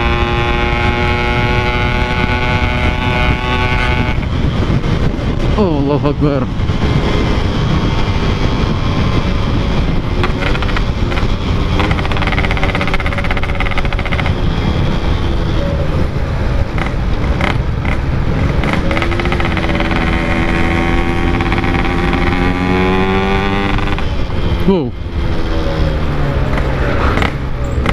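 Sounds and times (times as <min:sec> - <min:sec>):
two-stroke motorcycle engine running: 0:00.0 - 0:05.8, 0:06.5 - 0:16.0, 0:16.6 - 0:27.9
wind noise on microphone: 0:00.0 - 0:27.9.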